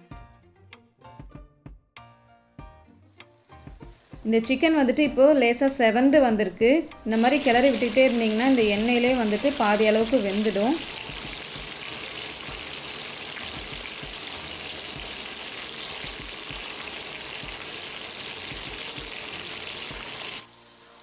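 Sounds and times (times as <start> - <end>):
chicken sizzling in oil: 2.9 - 21.0.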